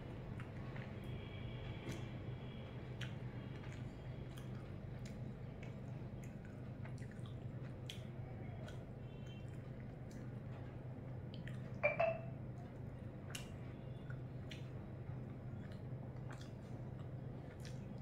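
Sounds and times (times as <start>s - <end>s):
wet chewing and mouth clicks: 0.2s - 1.2s, 2.9s - 10.6s, 11.2s - 11.8s, 12.6s - 18.0s.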